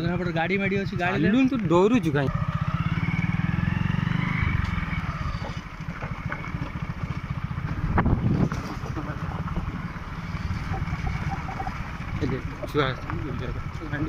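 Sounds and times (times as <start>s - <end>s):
motorcycle engine puttering: 0.0s - 14.0s.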